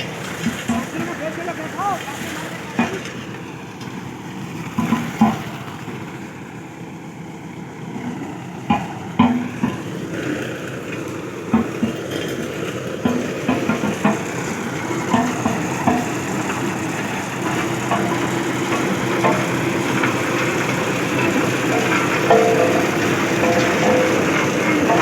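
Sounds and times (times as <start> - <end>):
road roller engine running: 0.0 - 25.0.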